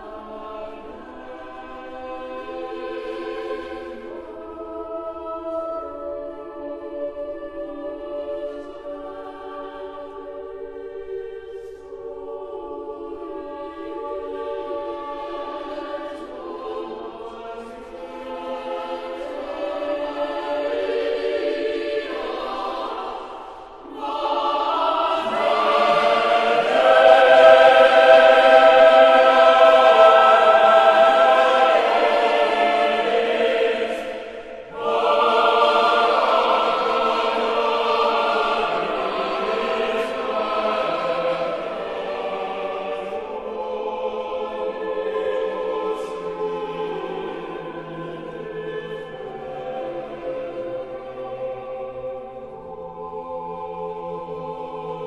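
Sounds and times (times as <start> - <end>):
choir singing sacred music: 0.0 - 55.0.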